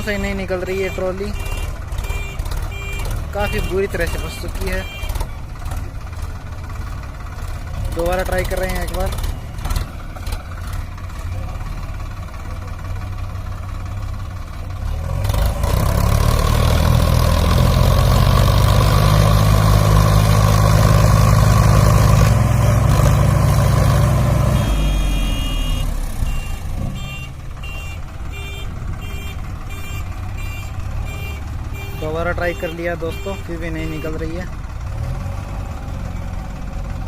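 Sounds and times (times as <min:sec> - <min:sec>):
diesel engines revving under load: 0:00.0 - 0:37.0.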